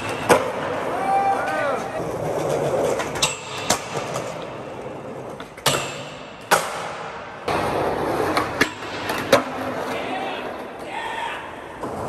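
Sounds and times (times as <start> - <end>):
skateboard clacks: 0.0 - 10.9
skateboard wheels rolling on concrete: 0.0 - 12.0.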